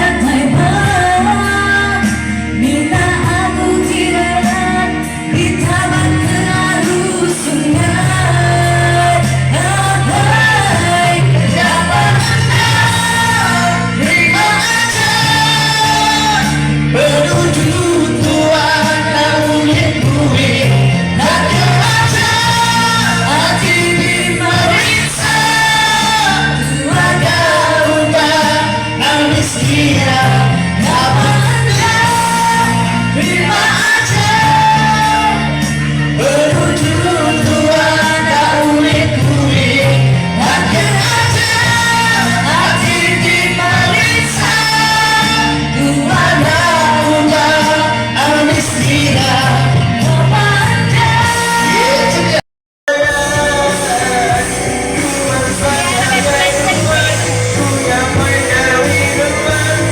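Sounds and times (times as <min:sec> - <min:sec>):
pop song with singer: 0:00.0 - 0:59.9
repeating bass line: 0:00.0 - 0:59.9.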